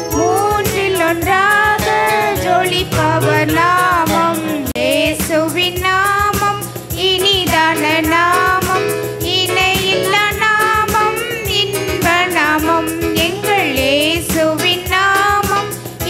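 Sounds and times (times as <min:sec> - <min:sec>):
instrumental backing with beat: 0:00.0 - 0:16.0
woman and girl singing: 0:00.2 - 0:15.7.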